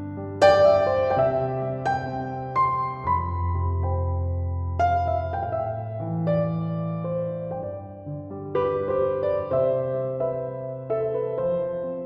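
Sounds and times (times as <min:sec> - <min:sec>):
loud piano chord: 0:00.0 - 0:12.0
soft piano music: 0:00.0 - 0:12.0.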